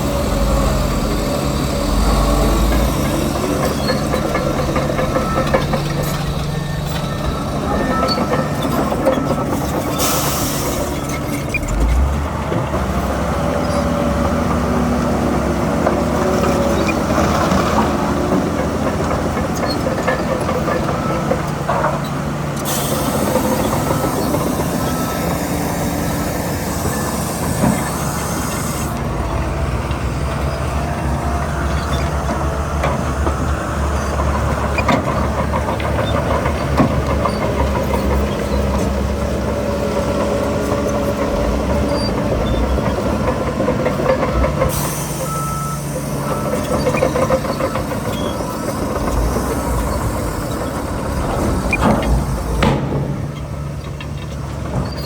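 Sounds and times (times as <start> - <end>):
bulldozer engine under load: 0.0 - 55.0.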